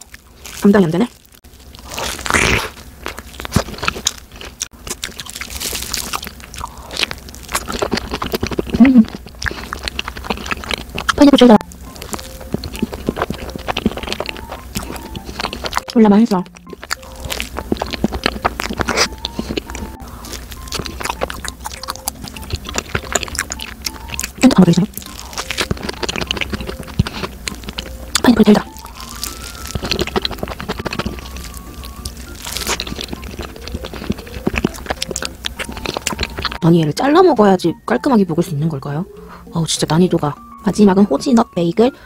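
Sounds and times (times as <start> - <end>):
person biting and chewing: 0.0 - 36.6.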